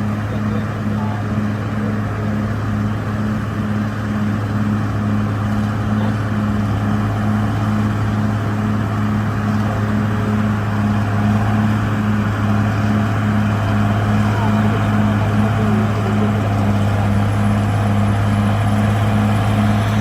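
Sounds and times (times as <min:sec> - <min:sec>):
diesel engine throbbing drone: 0:00.0 - 0:20.0.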